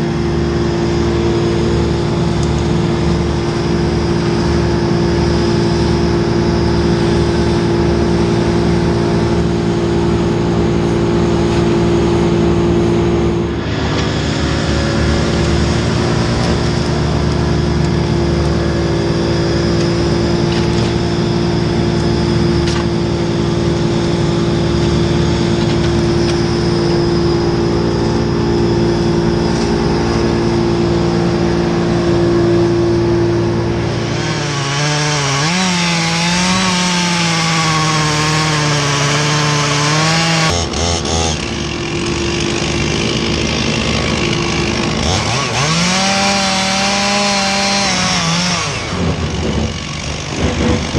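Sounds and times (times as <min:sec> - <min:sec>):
chainsaw running: 0:00.0 - 0:50.9.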